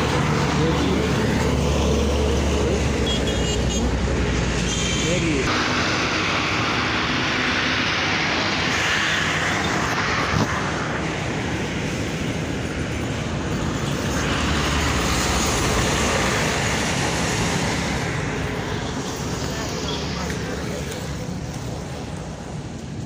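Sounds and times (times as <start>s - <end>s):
vehicle and road noise: 0.0s - 23.0s.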